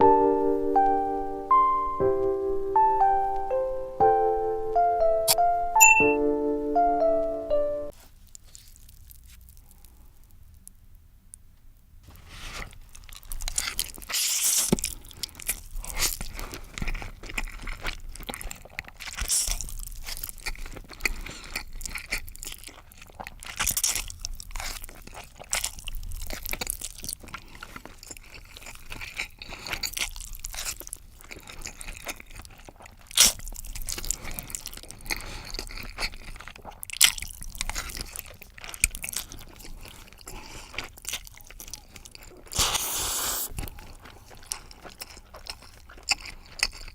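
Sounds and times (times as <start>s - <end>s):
chewing and crunching: 7.9s - 10.8s, 12.1s - 46.9s.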